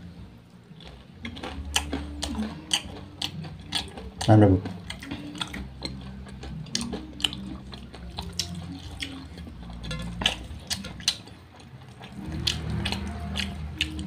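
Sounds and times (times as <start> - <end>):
wet chewing and lip-smacking: 0.7 - 14.0.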